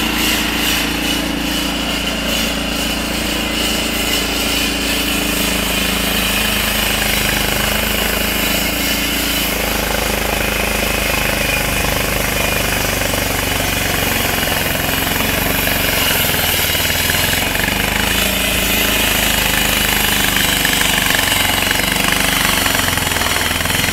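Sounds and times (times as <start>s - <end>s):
floor saw engine running: 0.0s - 23.9s
saw blade cutting asphalt: 0.0s - 23.9s.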